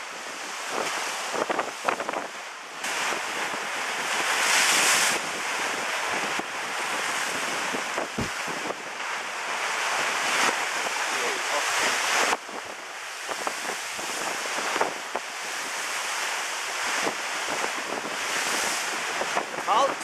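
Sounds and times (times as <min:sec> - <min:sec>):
waves splashing against stone wall: 0:00.0 - 0:20.0
wind buffeting microphone: 0:00.0 - 0:20.0.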